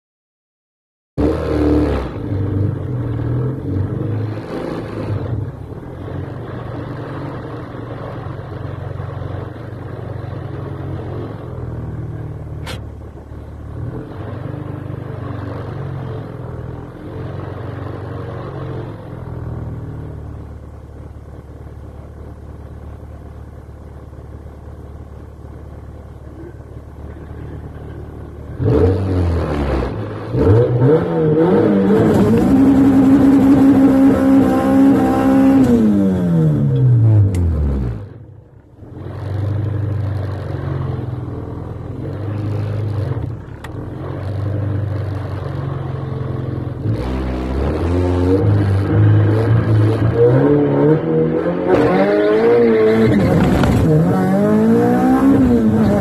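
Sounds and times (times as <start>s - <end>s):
car engine idling and revving: 1.2s - 56.0s.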